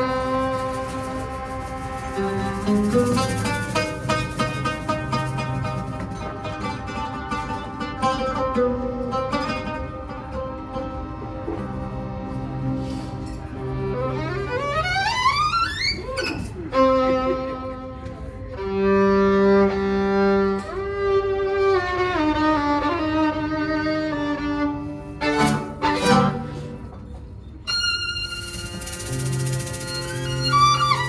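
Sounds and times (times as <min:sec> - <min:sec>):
solo violin playing: 0:00.0 - 0:08.0, 0:09.8 - 0:31.0
low sustained accompaniment: 0:00.0 - 0:31.0.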